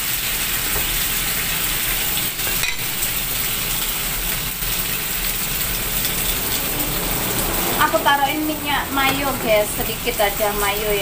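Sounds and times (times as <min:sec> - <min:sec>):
tofu sizzling in hot oil: 0:00.0 - 0:11.0.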